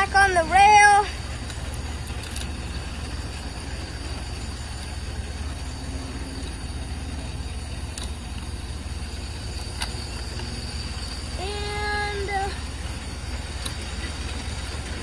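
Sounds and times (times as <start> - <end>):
model locomotive clicks on rails: 0.0 - 15.0
model trains rumbling: 0.0 - 15.0.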